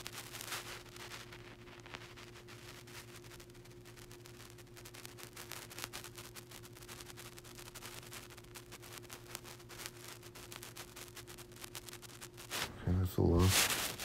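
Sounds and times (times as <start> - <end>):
crackling static: 0.0 - 14.0
faint steady hum: 0.0 - 14.0.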